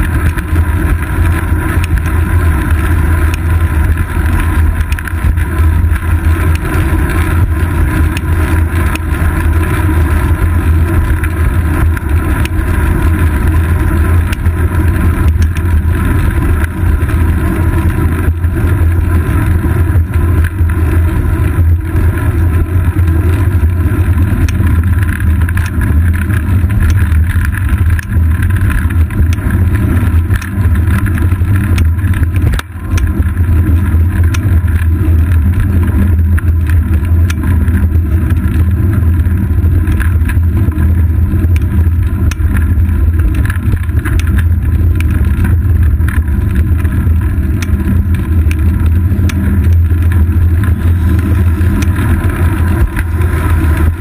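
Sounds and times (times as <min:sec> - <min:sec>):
small ticks and rattles: 0:00.0 - 0:54.0
wind and road vibration rumble: 0:00.0 - 0:54.0.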